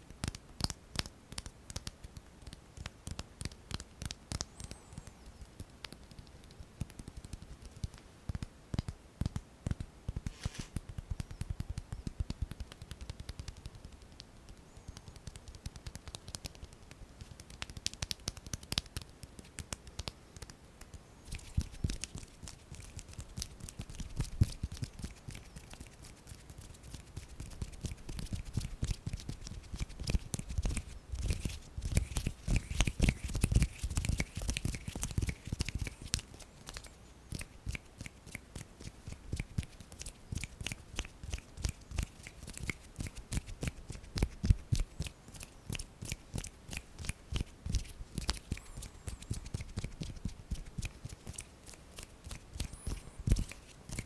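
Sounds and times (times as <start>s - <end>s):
hands rubbing close to microphone: 9.3s - 54.0s.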